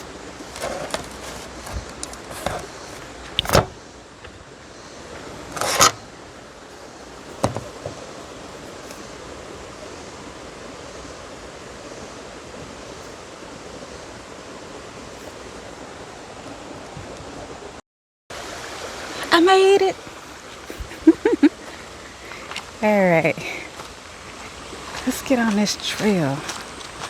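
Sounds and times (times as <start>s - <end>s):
steady rushing hiss: 0.0s - 17.8s, 18.4s - 27.0s.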